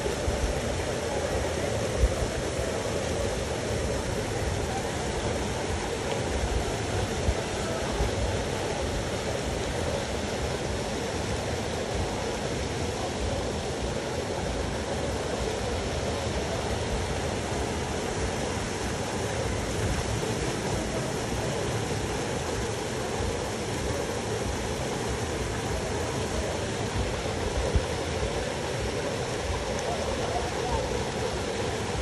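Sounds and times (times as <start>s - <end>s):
river water rushing over rocks: 0.0s - 32.0s.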